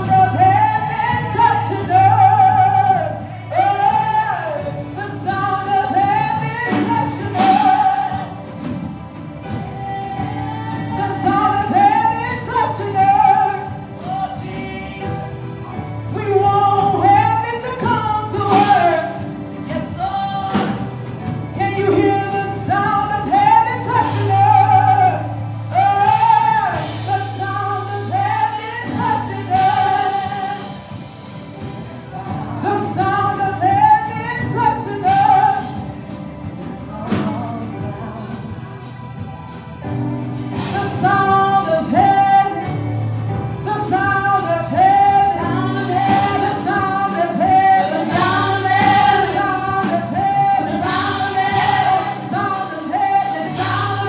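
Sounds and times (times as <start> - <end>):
band with bass and drums: 0.0 - 54.0
singers singing gospel melody: 0.0 - 54.0.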